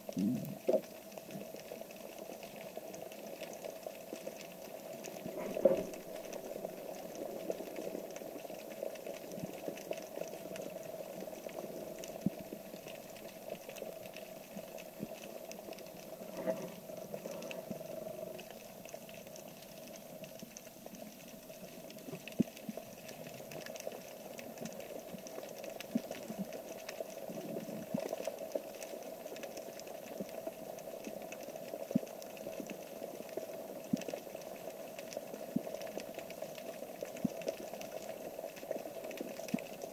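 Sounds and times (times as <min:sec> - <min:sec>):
small sharp clicks crackling: 0:00.6 - 0:39.9.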